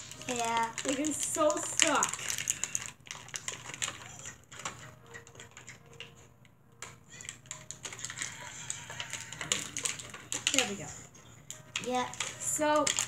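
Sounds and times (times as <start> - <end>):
plastic parts clicking: 0.0 - 6.1, 6.8 - 10.8, 11.5 - 13.0.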